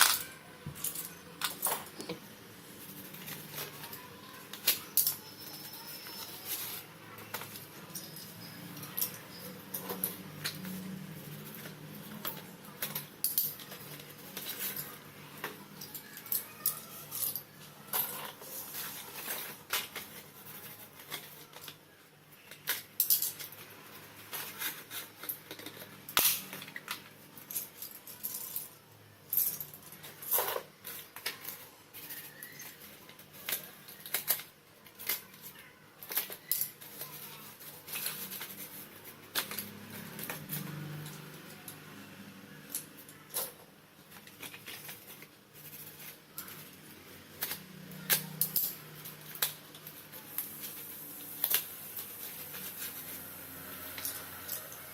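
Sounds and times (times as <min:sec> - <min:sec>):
slate pencils clicking and snapping: 0:00.0 - 0:54.9.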